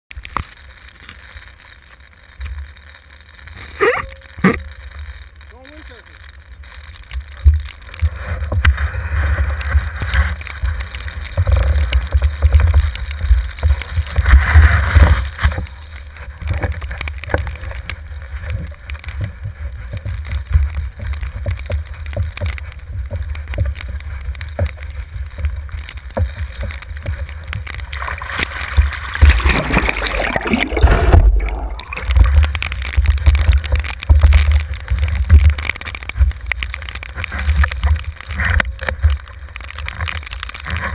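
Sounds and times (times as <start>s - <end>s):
water rushing and splashing: 3.4s - 40.9s.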